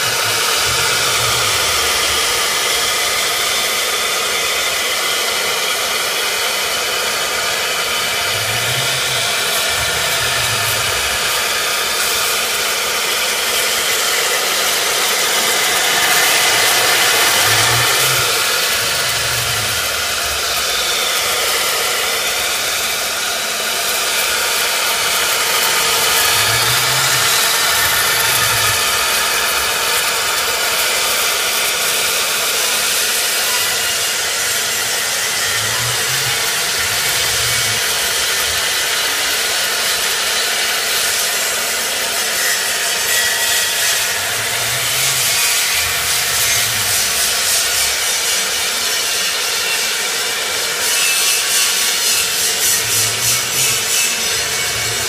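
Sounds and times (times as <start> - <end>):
router bit cutting foam hiss: 0.0 - 55.0.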